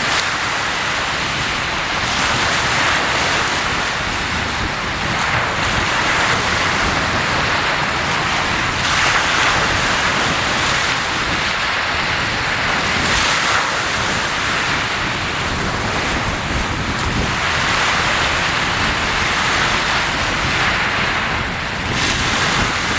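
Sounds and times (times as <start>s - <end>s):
surf washing: 0.0s - 22.9s.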